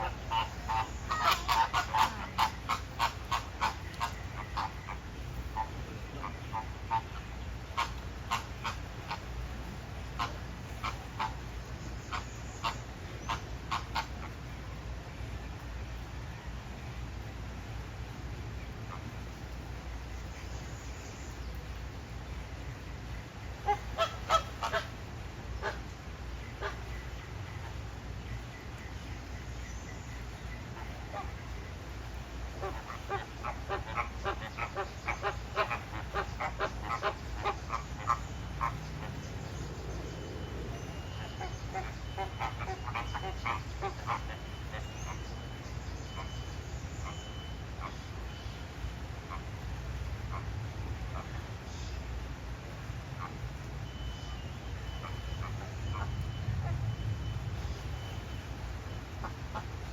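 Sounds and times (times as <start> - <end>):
flamingos calling: 0.0 - 14.5, 23.5 - 27.9, 30.1 - 52.0, 52.6 - 59.9.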